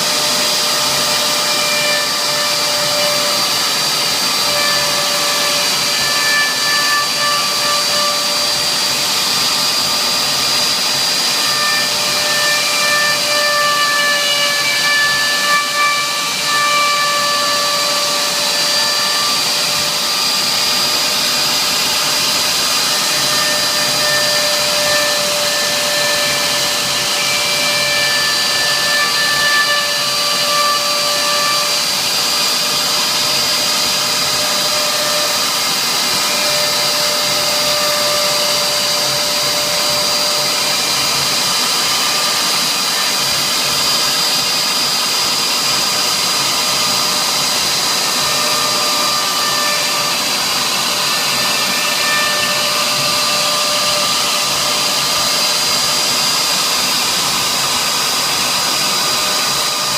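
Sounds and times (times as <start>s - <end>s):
router spindle whining: 0.0s - 59.9s.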